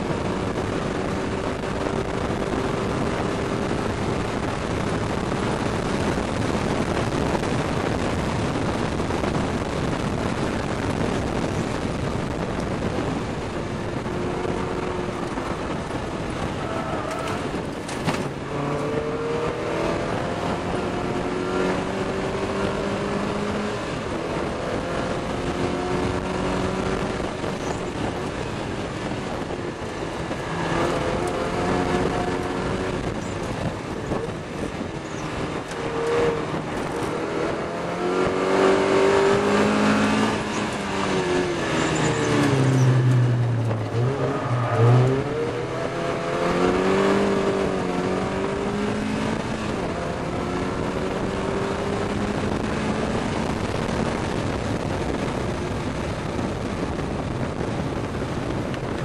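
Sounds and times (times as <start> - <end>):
car engine accelerating: 0.0 - 59.0
road noise: 0.0 - 59.0
wind noise: 0.0 - 59.0.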